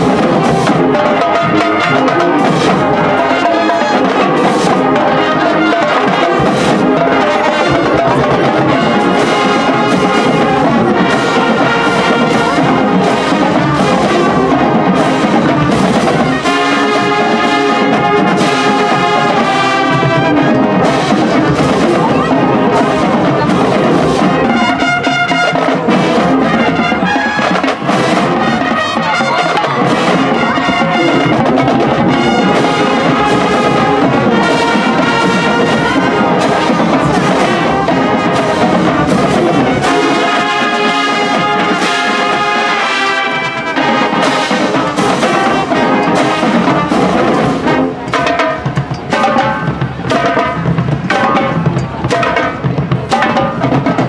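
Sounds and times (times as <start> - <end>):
brass playing melody: 0.0 - 54.0
drumline beat: 0.0 - 54.0.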